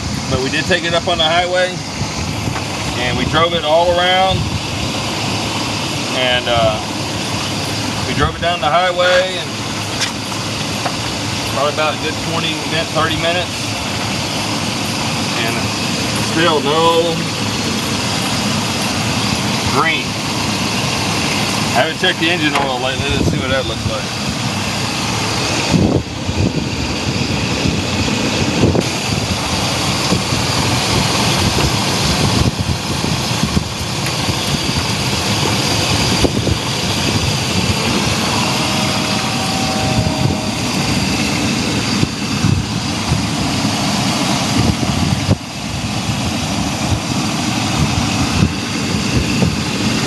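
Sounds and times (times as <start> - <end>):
van engine idling: 0.0 - 50.0.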